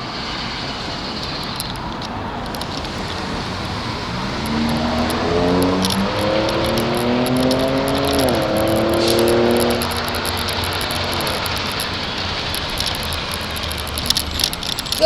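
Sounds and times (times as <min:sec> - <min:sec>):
road rumble: 0:00.0 - 0:15.0
vehicle engine accelerating: 0:00.0 - 0:15.0
wind: 0:00.0 - 0:15.0.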